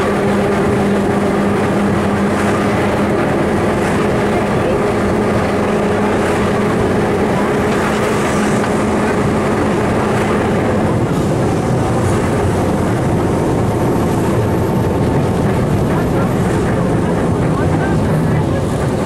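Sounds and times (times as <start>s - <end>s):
electric tram rumbling on rails: 0.0s - 19.0s.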